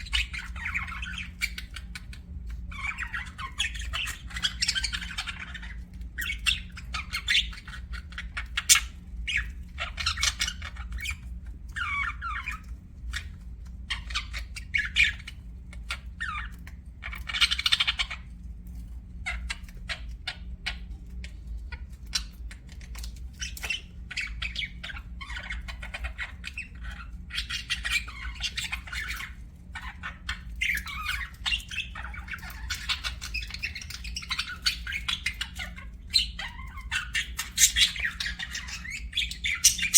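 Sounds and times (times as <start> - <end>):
budgerigars chirping: 0.0 - 18.3, 19.2 - 39.9.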